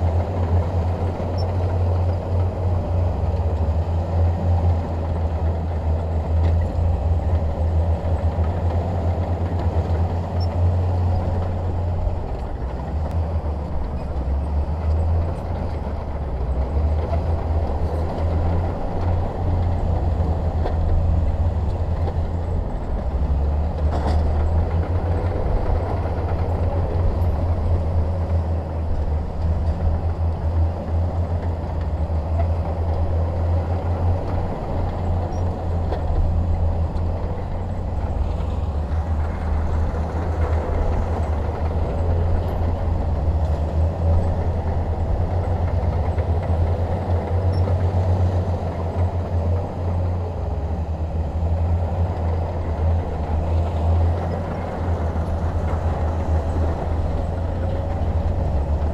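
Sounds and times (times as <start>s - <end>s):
bulldozer diesel engine droning: 0.0s - 58.9s.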